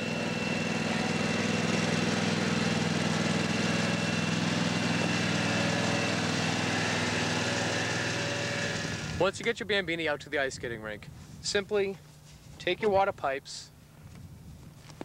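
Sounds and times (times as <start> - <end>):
garden tractor engine humming: 0.0 - 14.1.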